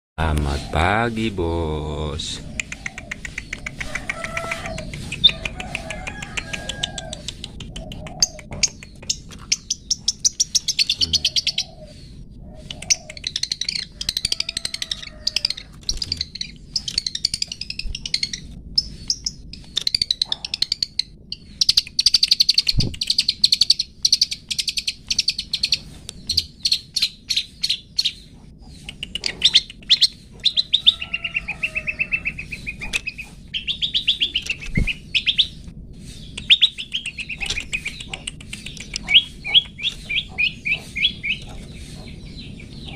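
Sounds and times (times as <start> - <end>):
bird chattering song: 0.2 - 42.9.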